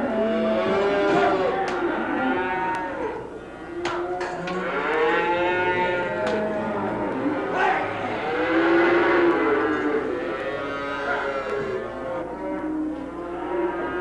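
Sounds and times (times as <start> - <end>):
cattle mooing: 0.0 - 3.2, 3.8 - 14.0.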